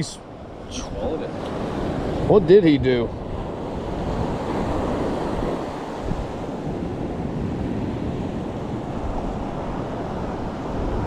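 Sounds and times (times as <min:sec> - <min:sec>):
ocean surf washing on beach: 0:00.0 - 0:11.0
wind noise on microphone: 0:00.7 - 0:11.0.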